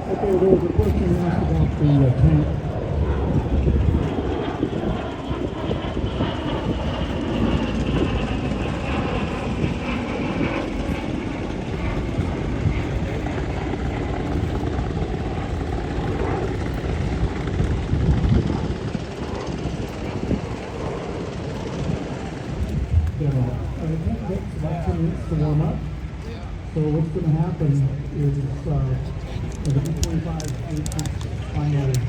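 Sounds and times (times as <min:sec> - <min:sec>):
propeller plane engines droning: 0:00.0 - 0:32.0.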